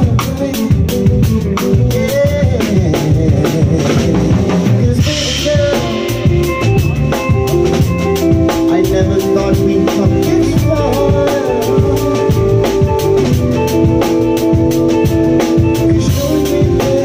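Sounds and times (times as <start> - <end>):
drum kit steady beat: 0.0 - 17.0
electric bass: 0.0 - 17.0
live band playing: 0.0 - 17.0.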